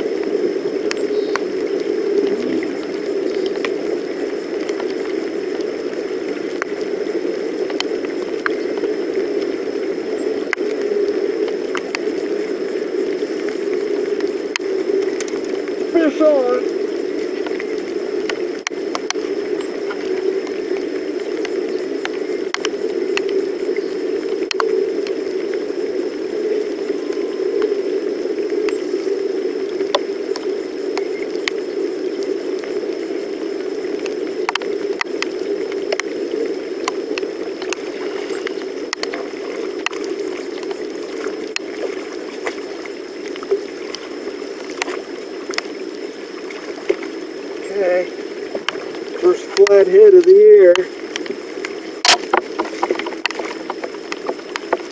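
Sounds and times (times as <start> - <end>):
rain and river water rushing: 0.0 - 54.9
raindrops ticking: 0.0 - 54.9.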